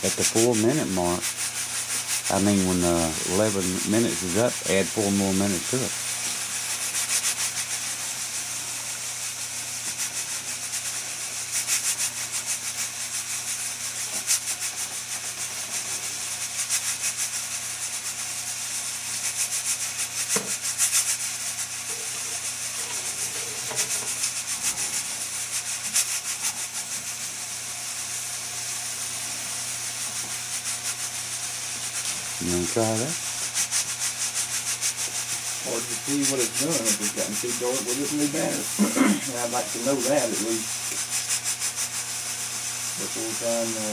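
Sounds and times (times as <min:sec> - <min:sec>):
pressure cooker venting steam: 0:00.0 - 0:43.9.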